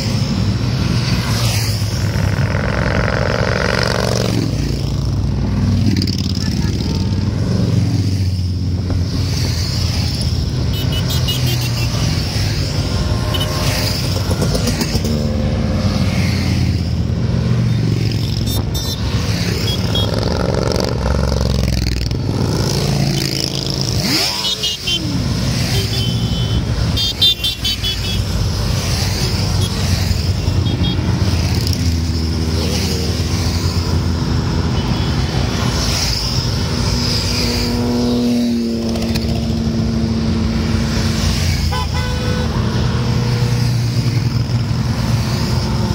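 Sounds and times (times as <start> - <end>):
motorcycles riding past: 0.0 - 45.9.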